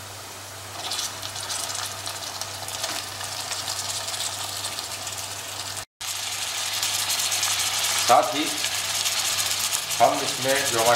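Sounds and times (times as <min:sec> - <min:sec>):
meat sizzling in hot fat: 0:00.7 - 0:10.9.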